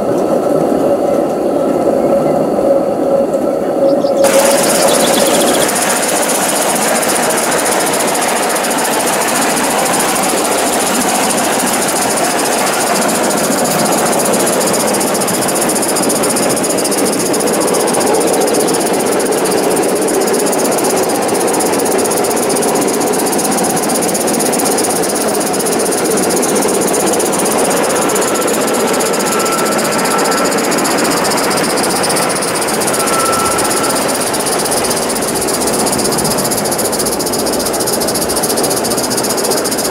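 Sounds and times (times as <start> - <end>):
model steam locomotive hissing: 4.2 - 39.9.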